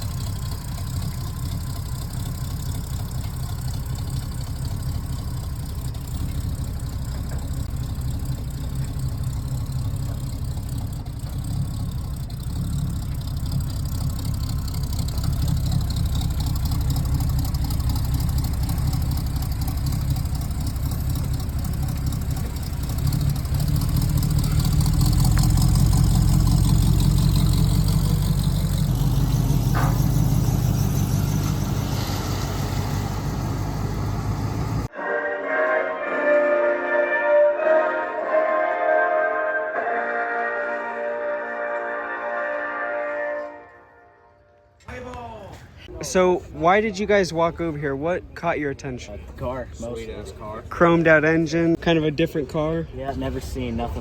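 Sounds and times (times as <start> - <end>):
car engine rumbling at low revs: 0.0 - 34.9, 45.7 - 54.0.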